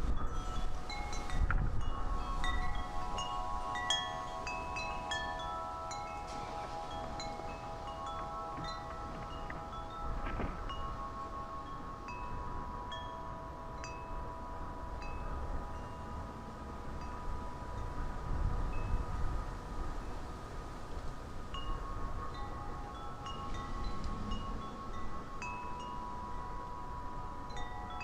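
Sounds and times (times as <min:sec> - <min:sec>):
wind chimes ringing: 0:00.0 - 0:28.0
wind rumble on microphone: 0:00.0 - 0:28.0.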